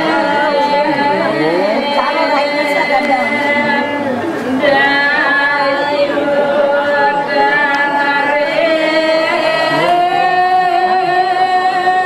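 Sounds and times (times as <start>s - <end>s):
person singing a slow chant: 0.0s - 12.0s.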